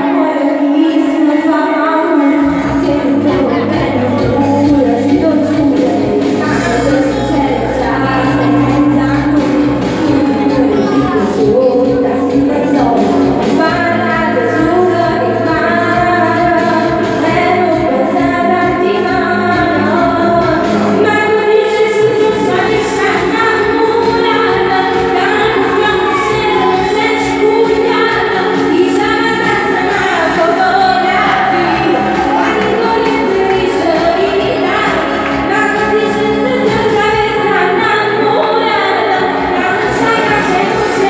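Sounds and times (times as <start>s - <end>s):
instrumental backing music: 0.0s - 41.0s
woman singing into microphone: 0.0s - 41.0s.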